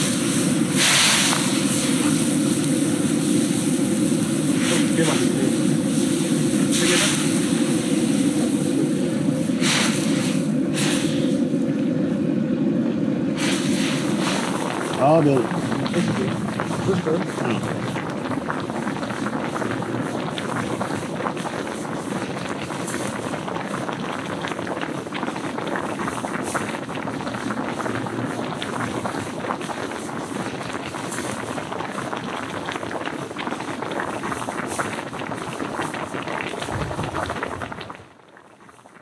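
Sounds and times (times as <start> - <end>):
stew bubbling at a rolling boil: 0.0 - 39.0.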